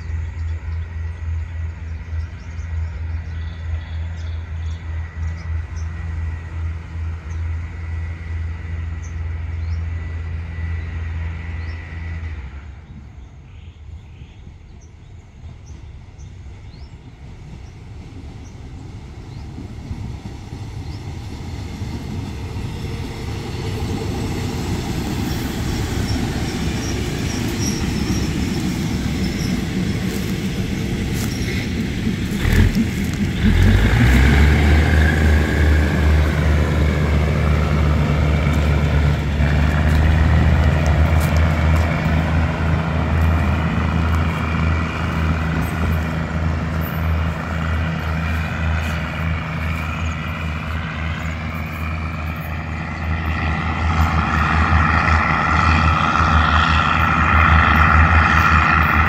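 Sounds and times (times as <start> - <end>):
diesel engine drone: 0.0 - 15.2, 16.0 - 59.0
train wheels rumbling on rail: 0.0 - 59.0.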